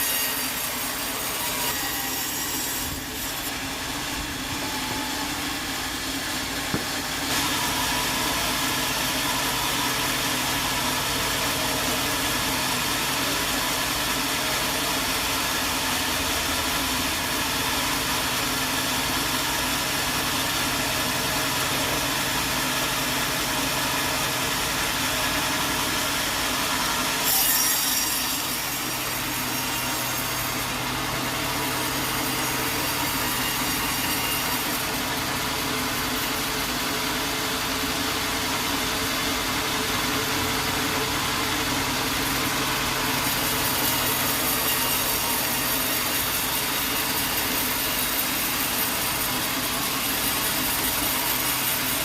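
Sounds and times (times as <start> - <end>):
sawmill engine running: 0.0 - 27.4, 28.3 - 52.0
saw cutting through wood: 0.0 - 52.0.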